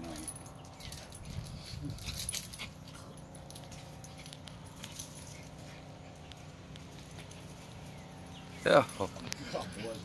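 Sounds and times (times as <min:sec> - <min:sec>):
collar tags jingling: 0:00.0 - 0:10.0.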